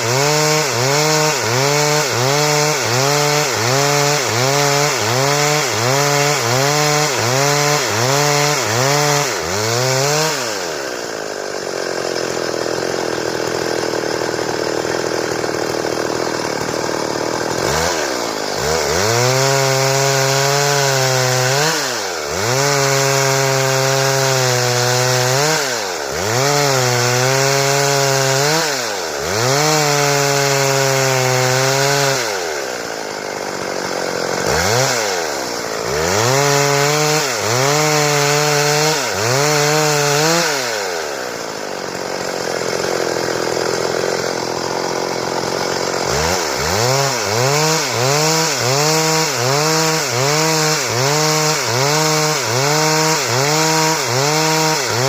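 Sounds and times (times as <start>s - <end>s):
chainsaw cutting wood: 0.0s - 55.0s
chainsaw revving: 0.0s - 55.0s.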